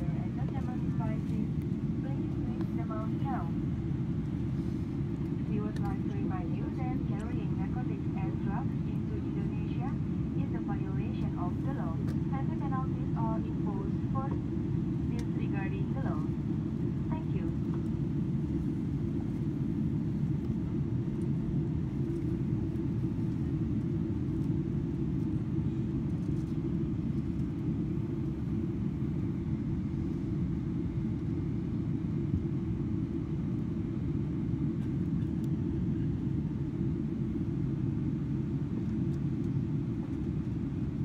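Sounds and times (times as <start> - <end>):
airplane cabin engine and airflow rumble: 0.0 - 41.0.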